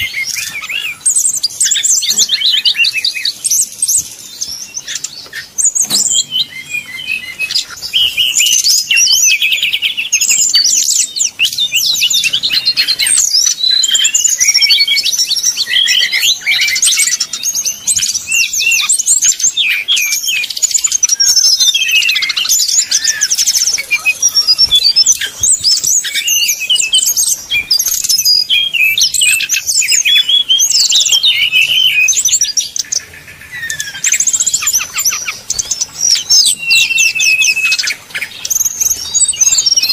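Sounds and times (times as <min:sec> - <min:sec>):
birds singing whistles and trills: 0:00.0 - 0:39.9.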